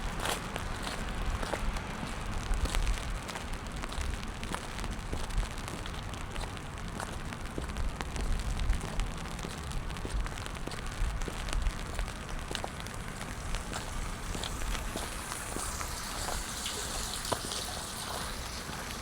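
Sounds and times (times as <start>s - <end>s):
rain on wet pavement: 0.0s - 19.0s
raindrops ticking: 0.0s - 19.0s.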